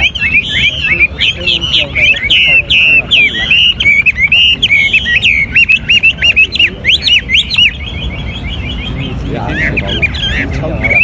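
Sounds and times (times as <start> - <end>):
bird singing whistled phrases: 0.0 - 11.0.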